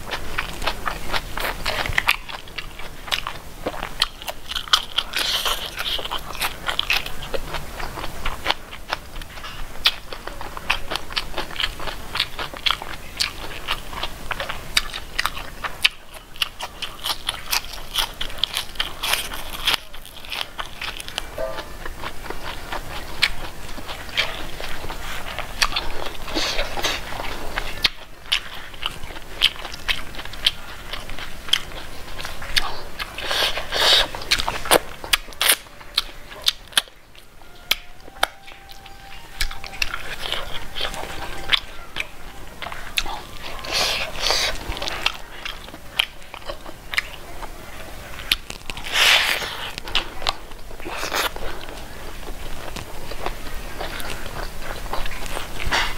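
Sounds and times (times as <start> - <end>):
wet chewing with lip smacks: 0.0 - 55.9.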